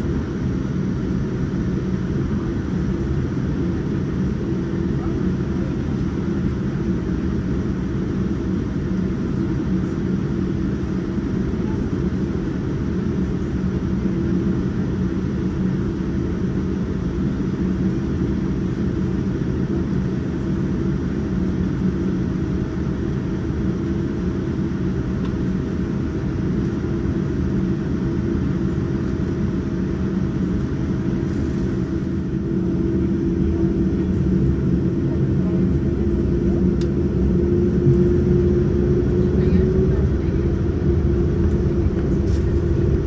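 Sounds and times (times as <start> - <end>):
airliner cabin engine roar: 0.0 - 43.0
constant hum tones: 0.0 - 43.0.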